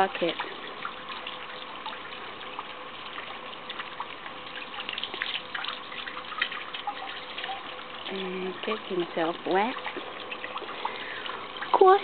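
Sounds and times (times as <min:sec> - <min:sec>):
hose water hissing into tub: 0:00.0 - 0:12.0
small water splashes: 0:00.0 - 0:12.0.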